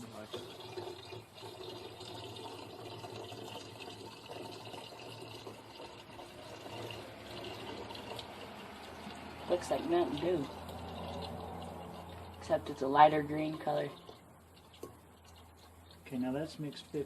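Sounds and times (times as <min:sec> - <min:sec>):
liquid pouring from bottle: 0:00.0 - 0:12.5, 0:13.6 - 0:16.1.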